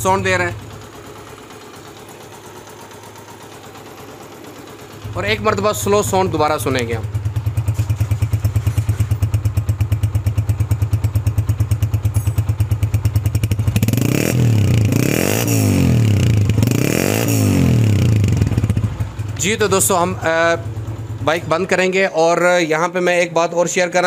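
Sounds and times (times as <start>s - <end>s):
motorcycle engine idling and revving: 0.0s - 22.7s.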